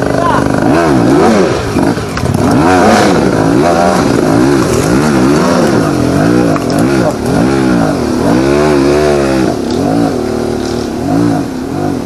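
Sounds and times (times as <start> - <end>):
two-stroke dirt bike engine revving: 0.0 - 12.0.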